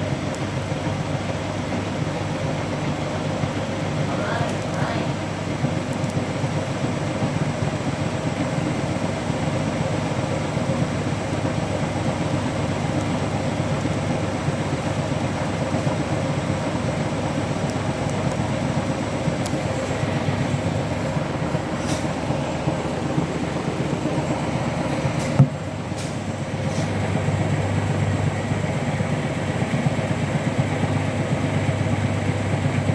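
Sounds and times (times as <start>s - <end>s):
washing machine spinning: 0.0s - 32.9s.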